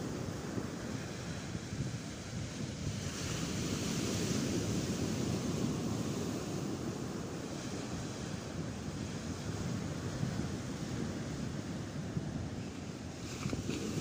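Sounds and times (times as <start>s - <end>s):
wind buffeting microphone: 0.0s - 14.0s
surf breaking on beach: 2.6s - 14.0s.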